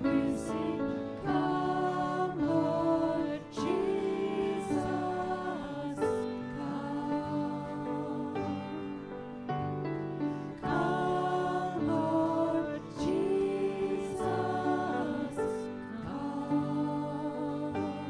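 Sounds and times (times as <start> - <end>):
held chords: 0.0 - 18.0
person singing: 0.0 - 18.0.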